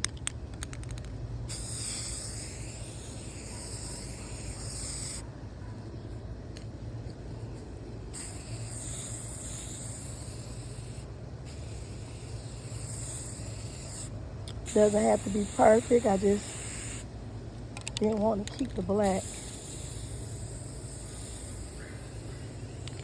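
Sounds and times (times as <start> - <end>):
spray paint can hissing: 0.0 - 5.2, 8.1 - 17.1, 17.8 - 23.0.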